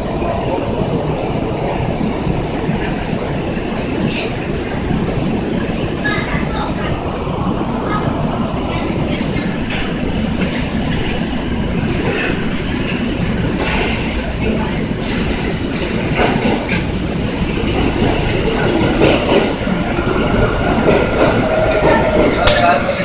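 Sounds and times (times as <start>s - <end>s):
standing train low rumble: 0.0s - 23.0s.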